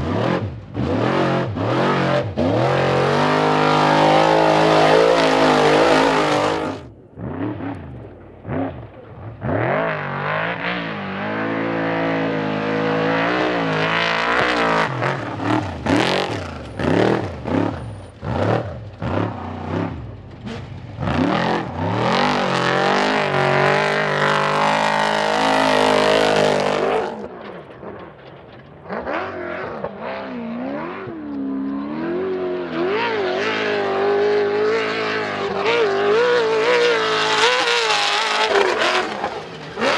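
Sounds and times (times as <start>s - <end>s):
race vehicle engines revving: 0.0s - 39.9s.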